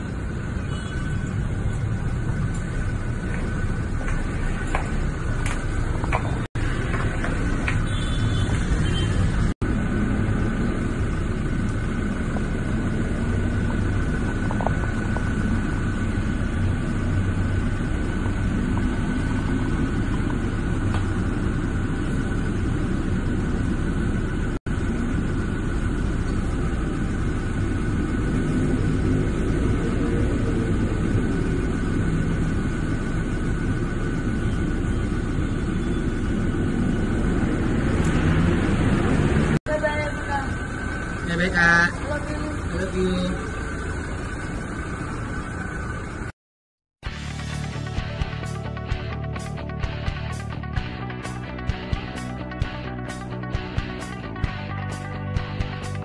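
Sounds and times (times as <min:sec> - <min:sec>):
car engine idling: 0:00.0 - 0:46.3.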